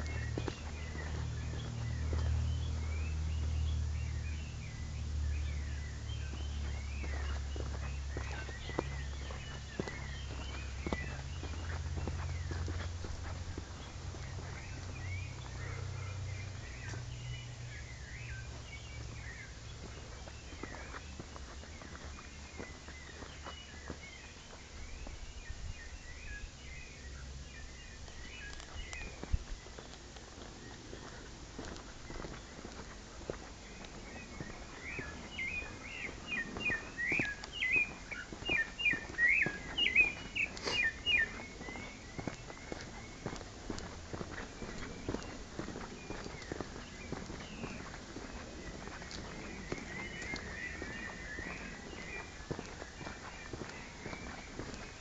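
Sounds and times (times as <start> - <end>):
faint footsteps: 0.0 - 55.0
low microphone rumble: 0.0 - 55.0
small birds chirping: 0.0 - 55.0.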